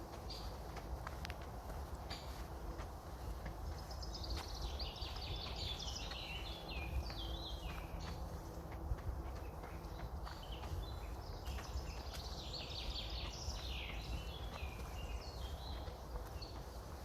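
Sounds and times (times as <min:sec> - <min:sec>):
footsteps on a path: 0:00.0 - 0:17.0
songbirds singing: 0:00.0 - 0:17.0
wind rumbling on microphone: 0:00.0 - 0:17.0.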